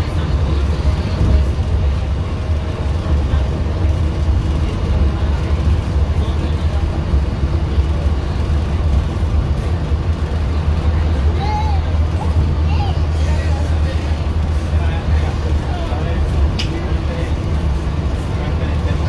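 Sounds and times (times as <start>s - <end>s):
monorail low rumble: 0.0s - 19.0s.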